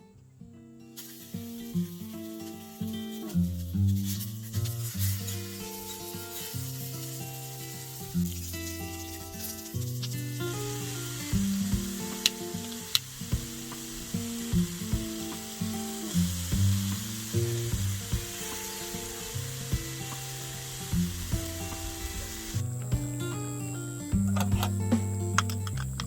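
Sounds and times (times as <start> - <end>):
sizzling hiss with crackles: 0.8 - 26.0.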